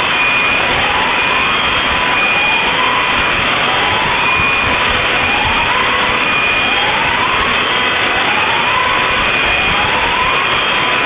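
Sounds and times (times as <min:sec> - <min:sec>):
emergency siren wailing: 0:00.0 - 0:11.0
loud steady din: 0:00.0 - 0:11.0.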